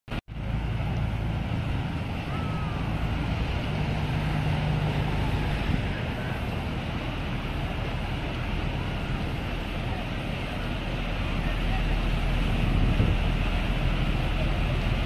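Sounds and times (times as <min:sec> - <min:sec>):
boat engine droning: 0:00.2 - 0:15.0
wind rushing over microphone: 0:00.3 - 0:15.0.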